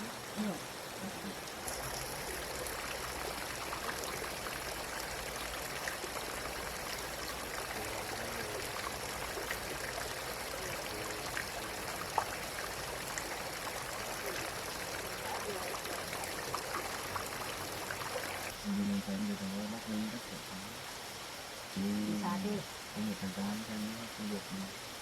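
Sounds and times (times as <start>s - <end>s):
running water: 0.0s - 25.0s.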